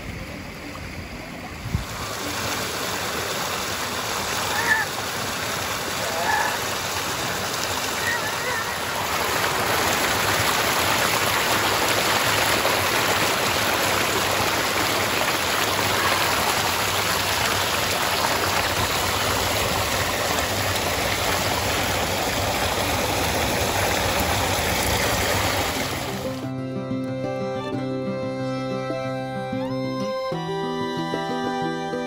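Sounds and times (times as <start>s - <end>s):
waterfall splashing over rocks: 0.0s - 26.5s.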